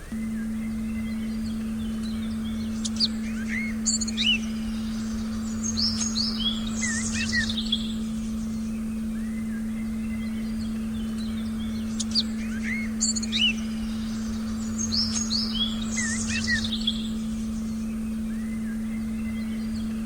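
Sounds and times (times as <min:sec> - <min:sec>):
birds chirping and whistling: 0:00.0 - 0:20.0
steady low sine tone: 0:00.0 - 0:20.0.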